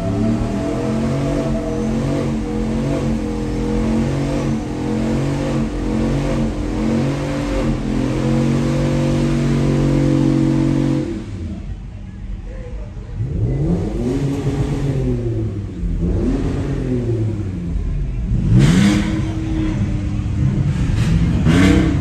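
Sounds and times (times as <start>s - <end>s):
pickup truck engines revving: 0.0s - 11.8s, 13.1s - 22.0s.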